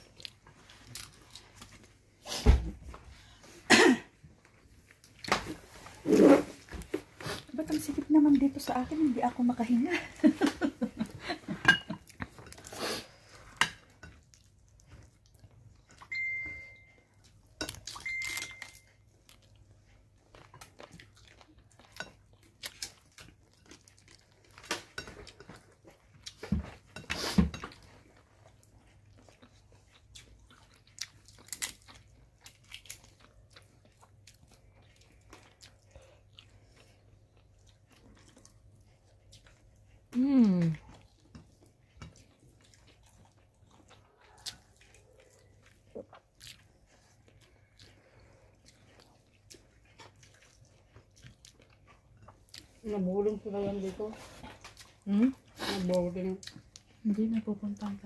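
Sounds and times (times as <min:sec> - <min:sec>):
chewing food: 0:00.0 - 0:02.2, 0:03.1 - 0:58.0.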